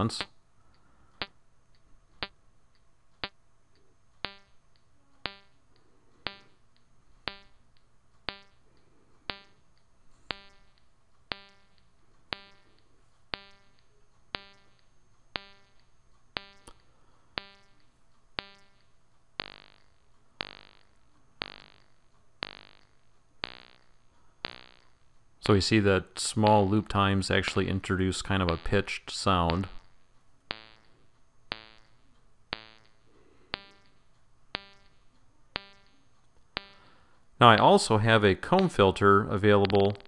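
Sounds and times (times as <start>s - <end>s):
digital clicks with buzzing ring: 0.0s - 37.8s, 38.6s - 40.0s.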